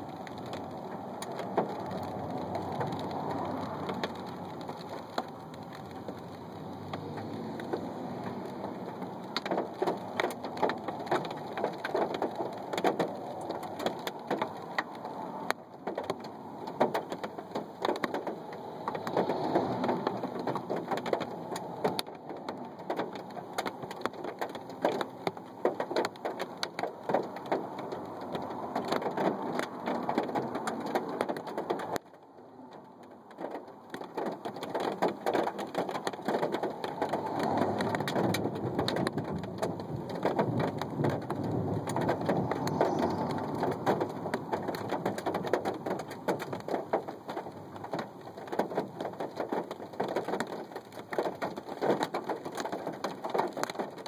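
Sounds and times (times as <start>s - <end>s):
rain and hail on hard surface: 0.0s - 54.0s.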